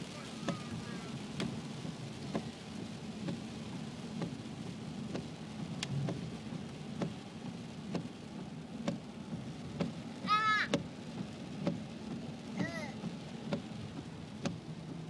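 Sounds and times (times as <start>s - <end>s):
rain on a car: 0.0s - 15.0s
tyres on wet road: 0.0s - 15.0s.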